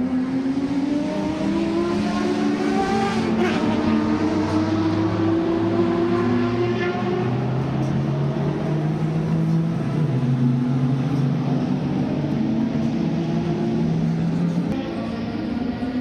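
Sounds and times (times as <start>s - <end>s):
racing car engines running: 0.0s - 16.0s.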